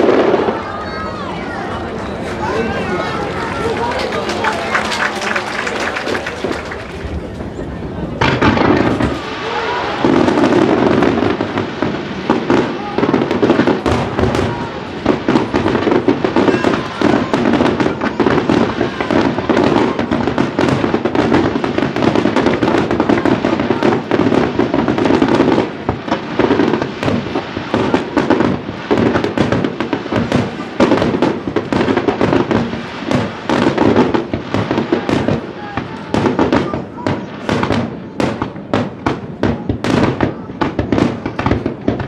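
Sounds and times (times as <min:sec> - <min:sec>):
fireworks booming and crackling: 0:00.0 - 0:42.0.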